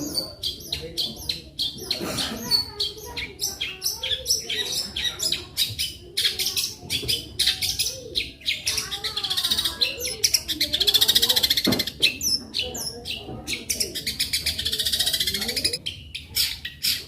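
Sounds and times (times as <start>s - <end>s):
bird singing rapid song: 0.0s - 17.0s.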